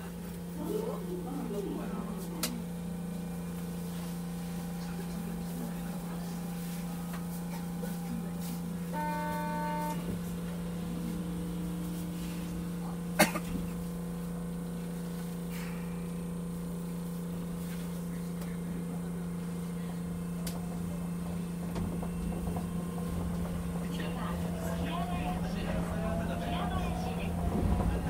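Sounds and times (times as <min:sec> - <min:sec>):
train cab hum: 0:00.0 - 0:28.0.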